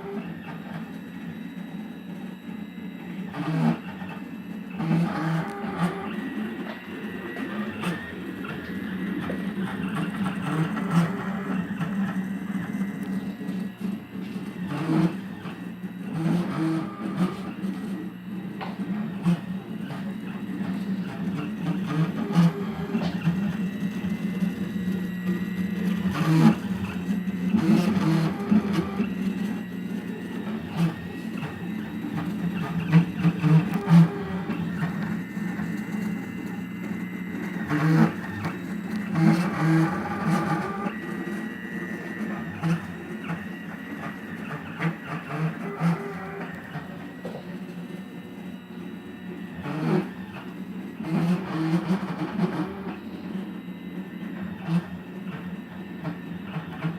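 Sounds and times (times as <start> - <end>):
stepper motors whining: 0.0 - 56.9.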